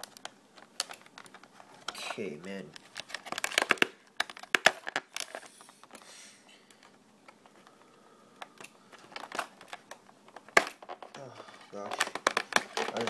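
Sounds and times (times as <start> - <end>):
plastic packaging clicks and crackles: 0.0 - 6.0, 6.6 - 13.0
faint packaging rustle: 0.0 - 13.0.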